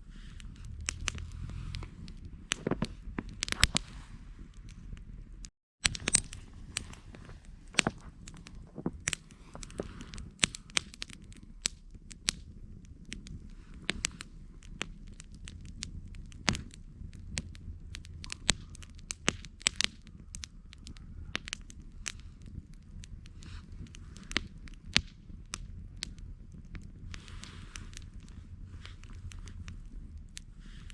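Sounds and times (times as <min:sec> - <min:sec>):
campfire crackling: 0:00.0 - 0:30.9
low rumble of flames: 0:00.0 - 0:30.9
sharp pops and snaps: 0:00.0 - 0:30.9.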